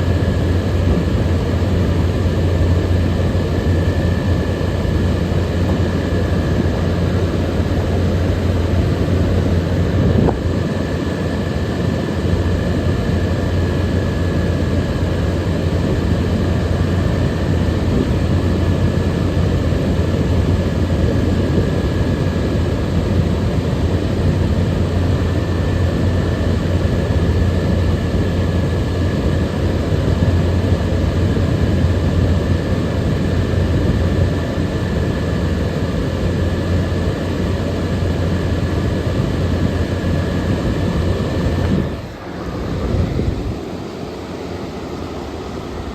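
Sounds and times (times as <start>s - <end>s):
air conditioner fan rush: 0.0s - 45.9s
faint high whine: 0.0s - 45.9s.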